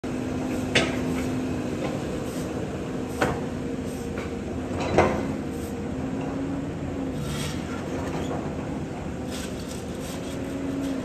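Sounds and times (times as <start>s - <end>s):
diesel excavator engine running: 0.0s - 11.0s.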